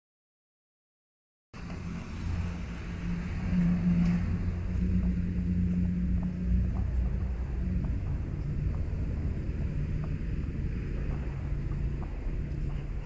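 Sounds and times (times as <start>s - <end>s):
vehicle engine running: 1.6s - 13.0s.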